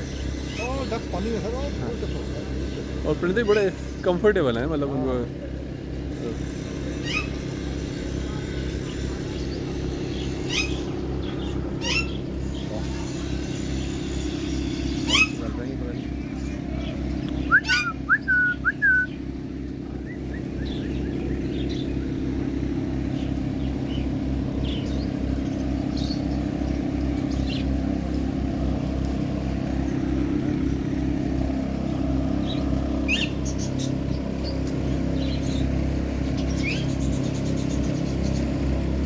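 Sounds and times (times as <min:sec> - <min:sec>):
birds whistling and chirping: 0:00.0 - 0:05.5, 0:06.1 - 0:39.0
low mechanical hum: 0:00.0 - 0:39.0.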